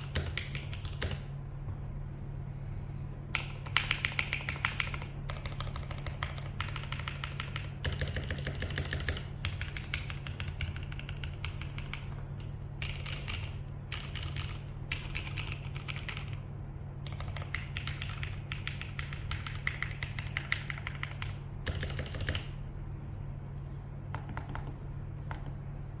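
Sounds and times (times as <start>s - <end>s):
mechanical keyboard typing: 0.0s - 1.3s, 3.3s - 16.4s, 17.0s - 22.5s, 24.1s - 25.6s
steady low hum: 0.0s - 26.0s.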